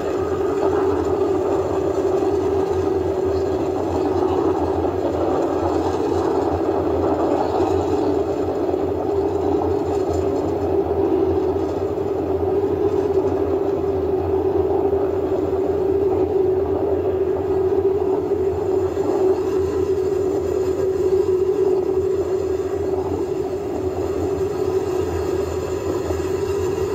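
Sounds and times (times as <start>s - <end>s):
rocket engines rumbling: 0.0s - 26.9s.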